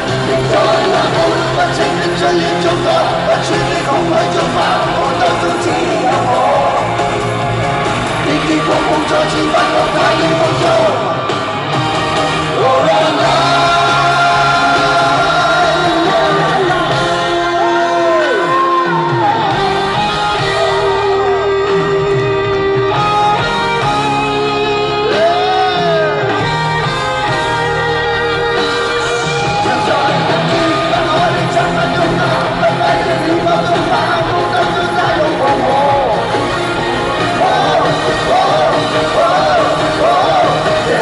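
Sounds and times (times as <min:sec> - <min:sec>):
person singing: 0:00.0 - 0:07.1, 0:08.1 - 0:11.4, 0:12.4 - 0:41.0
live rock band playing: 0:00.0 - 0:41.0.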